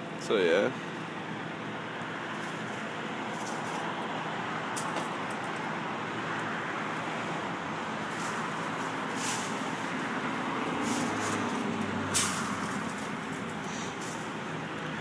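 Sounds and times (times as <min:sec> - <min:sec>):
vehicle rumble and hiss: 0:00.0 - 0:15.0.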